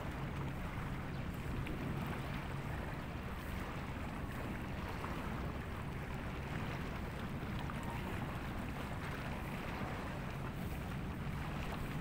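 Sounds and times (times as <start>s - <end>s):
sea: 0.0s - 12.0s
wind: 0.0s - 12.0s.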